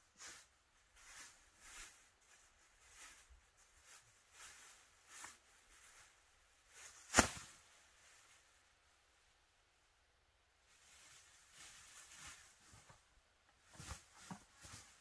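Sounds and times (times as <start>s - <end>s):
faint scuffs and rustles: 0.0s - 8.8s, 10.6s - 15.0s.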